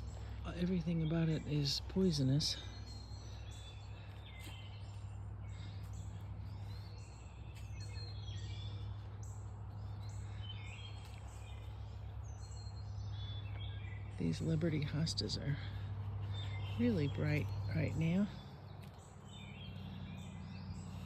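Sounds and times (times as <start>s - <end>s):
songbirds chirping: 0.0s - 21.0s
steady low hum: 0.0s - 21.0s.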